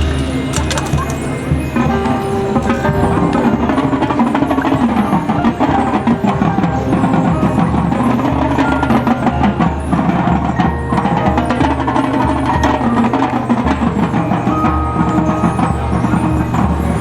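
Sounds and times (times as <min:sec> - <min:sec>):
brass and winds playing: 0:00.0 - 0:17.0
drums: 0:00.0 - 0:17.0
mallet percussion: 0:00.0 - 0:17.0.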